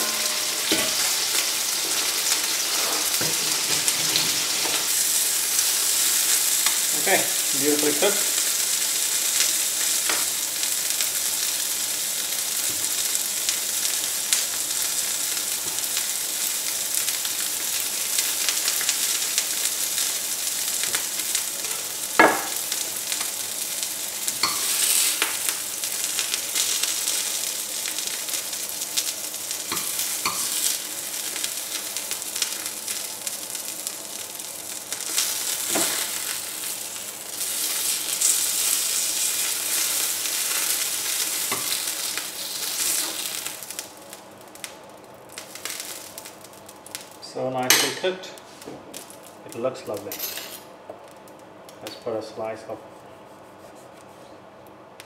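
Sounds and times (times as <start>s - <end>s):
fish sizzling in a frying pan: 0.0s - 50.0s.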